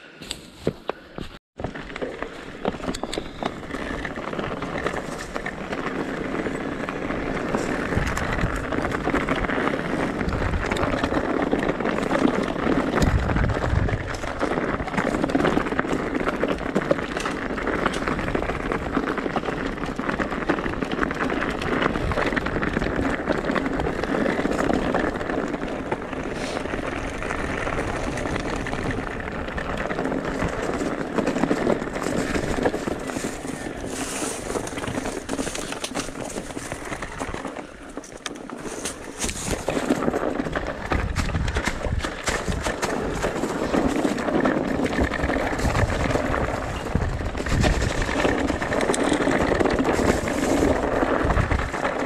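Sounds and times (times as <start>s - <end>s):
tyres on loose ground: 0.0s - 52.0s
bike clattering and rattling: 1.6s - 52.0s.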